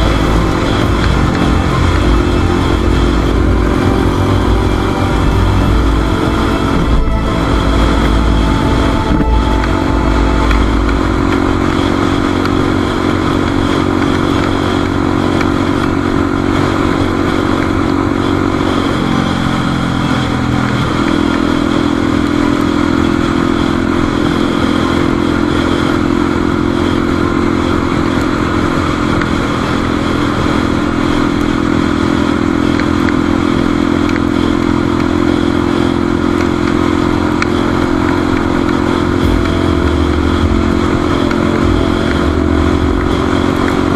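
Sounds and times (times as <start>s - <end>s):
motorcycle engine cruising: 0.0s - 43.9s
wind and road noise: 0.0s - 43.9s.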